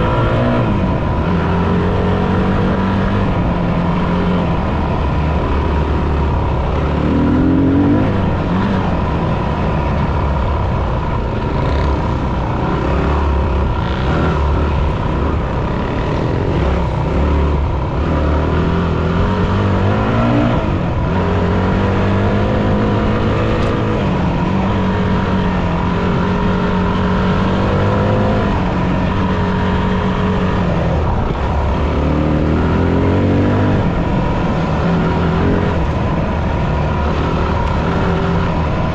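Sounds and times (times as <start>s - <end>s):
dirt bike engine revving: 0.0s - 10.4s, 11.4s - 38.9s.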